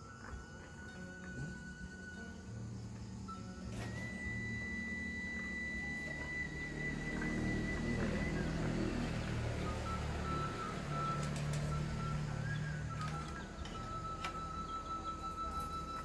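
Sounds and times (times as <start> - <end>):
music of long held notes: 0.0 - 16.0
thin high tone: 0.0 - 16.0.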